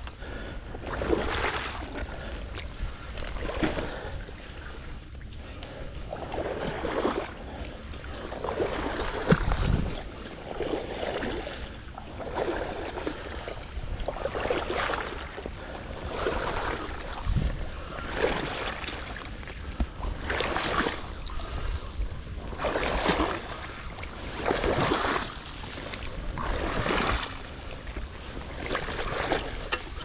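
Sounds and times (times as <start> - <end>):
water sloshing and lapping: 0.0 - 30.0.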